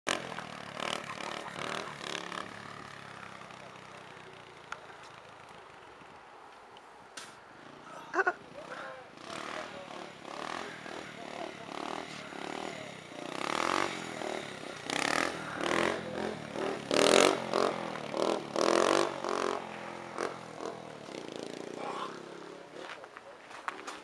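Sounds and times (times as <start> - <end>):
motorbike engine revving: 0.1 - 6.2, 7.6 - 23.0.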